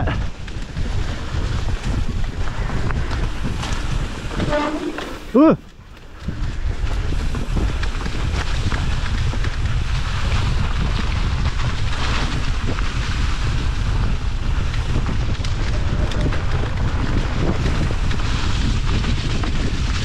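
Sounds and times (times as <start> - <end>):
bike rolling over muddy trail: 0.0 - 20.0
wind buffeting microphone: 0.0 - 20.0.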